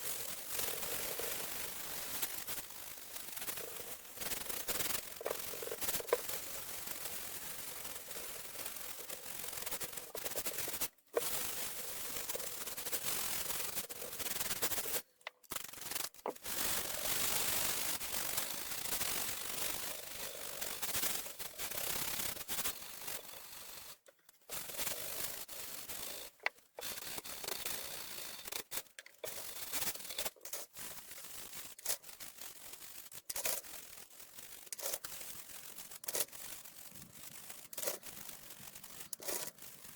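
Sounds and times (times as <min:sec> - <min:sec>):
scratchy brushing and wiping: 0:00.5 - 0:39.9.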